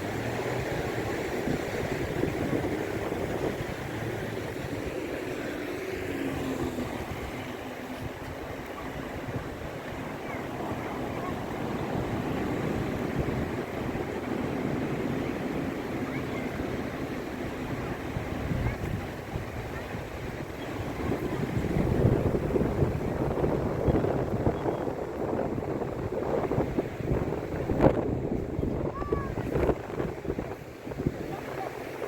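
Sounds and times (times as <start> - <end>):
surf and wind rushing: 0.0 - 32.0.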